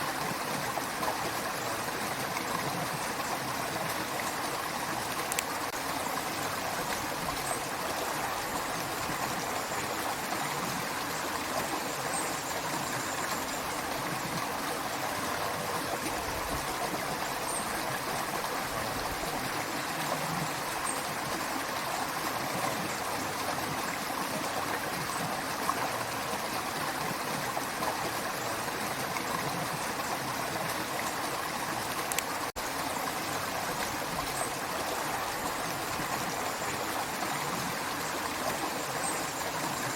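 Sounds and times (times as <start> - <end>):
creek water babbling: 0.0 - 39.9.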